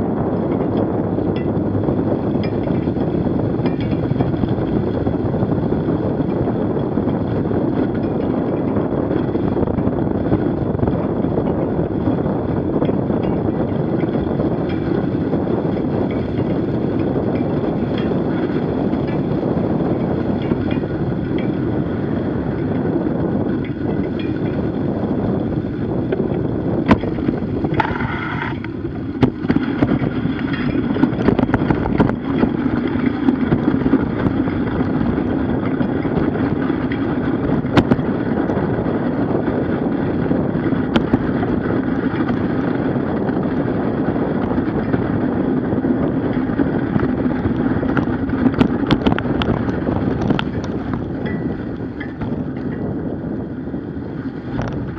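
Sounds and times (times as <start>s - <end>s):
bicycle tyre rolling over snow: 0.0s - 54.9s
wind on microphone: 0.0s - 54.9s.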